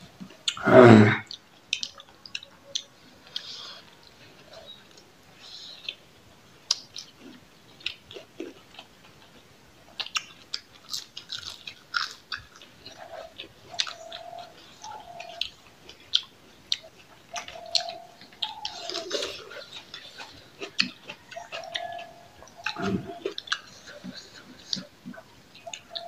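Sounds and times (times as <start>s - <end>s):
people chewing and crunching food: 0.0s - 26.0s.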